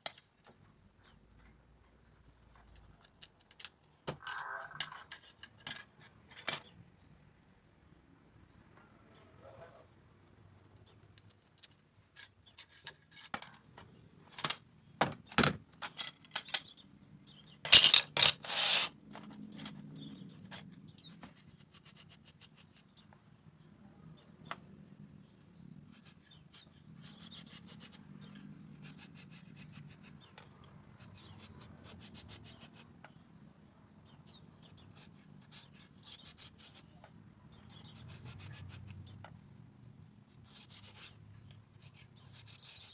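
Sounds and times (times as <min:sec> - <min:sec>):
small birds chirping: 0:00.0 - 0:01.5, 0:02.5 - 0:05.6, 0:06.4 - 0:07.3, 0:07.9 - 0:17.8, 0:19.2 - 0:42.9.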